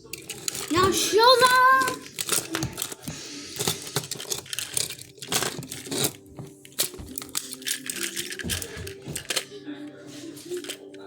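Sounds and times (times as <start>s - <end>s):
toy train pieces clattering: 0.0s - 9.6s, 10.3s - 11.0s.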